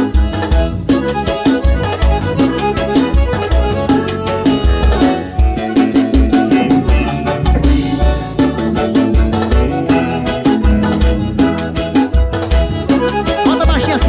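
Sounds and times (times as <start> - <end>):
instrumental dance music: 0.0 - 14.0
heavy bass beat: 0.1 - 14.0.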